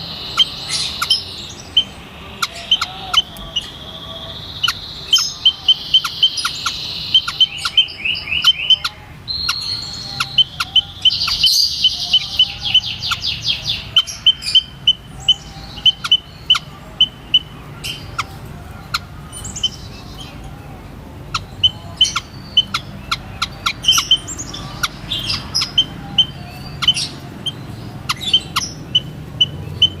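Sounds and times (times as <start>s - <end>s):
bird calling high-pitched notes: 0.0s - 30.0s.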